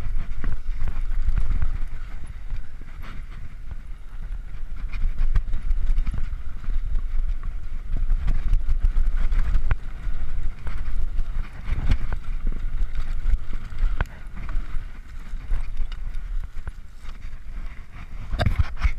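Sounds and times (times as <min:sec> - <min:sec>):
bike clicks and rattles: 0:00.0 - 0:18.9
bike tyres rolling on dirt: 0:00.0 - 0:18.9
wind rumbling on microphone: 0:00.0 - 0:18.9.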